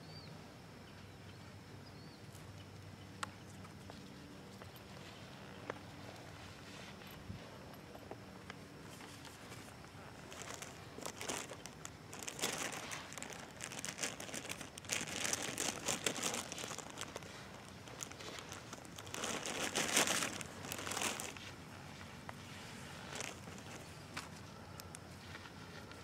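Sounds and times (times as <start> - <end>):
crinkling and rustling: 3.6 - 26.0.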